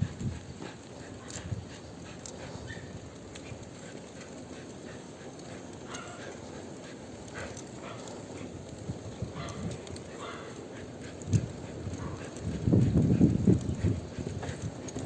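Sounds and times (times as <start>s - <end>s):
bicycle rolling hiss: 0.0s - 15.0s.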